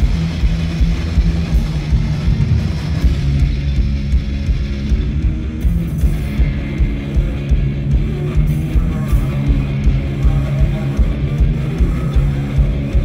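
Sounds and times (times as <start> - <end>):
electric guitar: 0.0 - 13.0
live band playing: 0.0 - 13.0.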